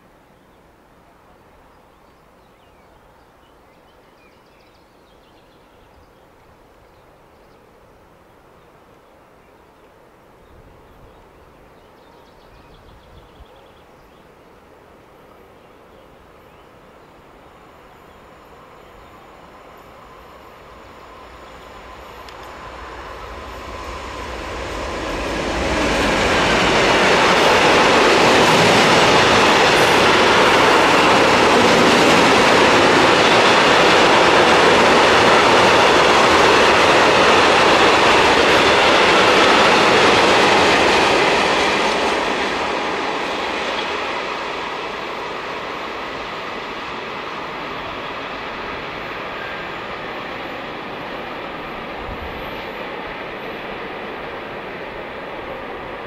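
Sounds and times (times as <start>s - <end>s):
freight train passing: 1.0s - 56.0s.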